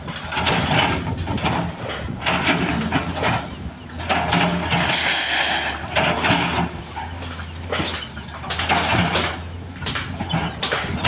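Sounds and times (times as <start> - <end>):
heavy machine engine humming: 0.0 - 11.0.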